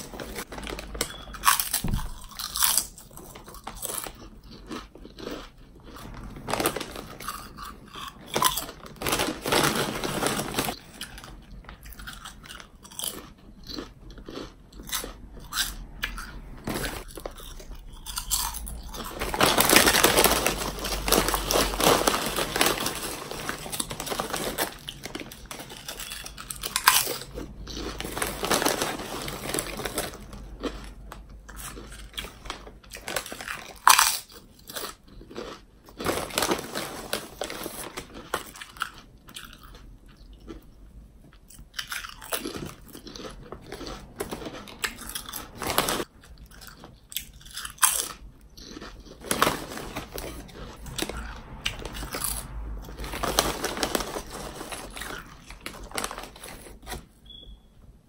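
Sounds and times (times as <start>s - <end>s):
potato chips crunching: 0.0s - 57.4s.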